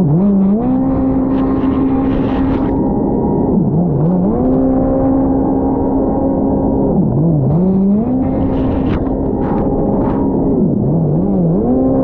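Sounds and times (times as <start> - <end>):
jet ski engine running hard: 0.0 - 12.0.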